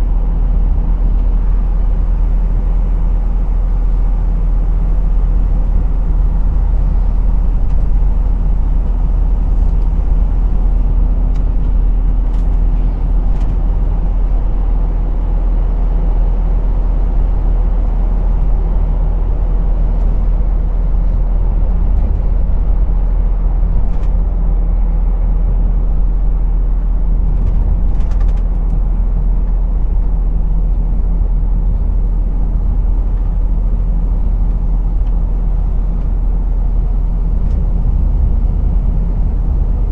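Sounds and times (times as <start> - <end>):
lorry engine running: 0.0 - 39.9
low road rumble: 0.0 - 39.9.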